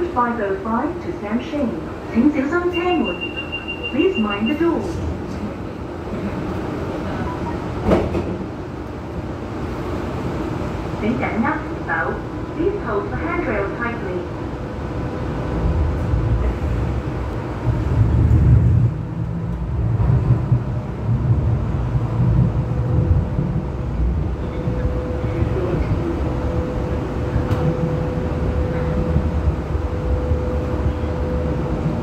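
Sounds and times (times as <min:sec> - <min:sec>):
rumble of train wheels: 0:00.0 - 0:32.0.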